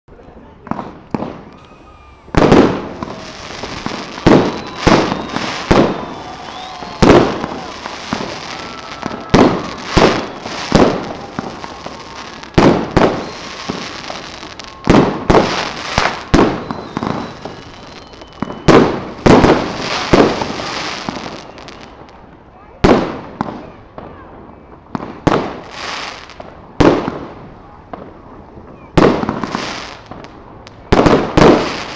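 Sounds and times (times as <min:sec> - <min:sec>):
background noise: 0:00.0 - 0:31.9
fireworks bursting: 0:00.6 - 0:31.9.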